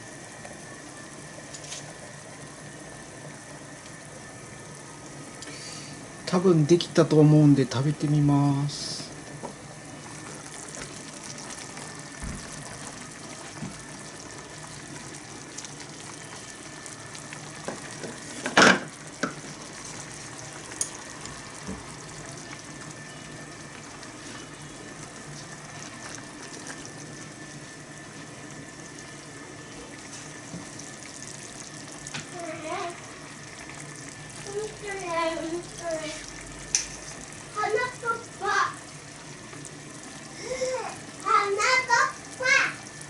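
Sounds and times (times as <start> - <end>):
stew bubbling in a pot: 0.0 - 43.0.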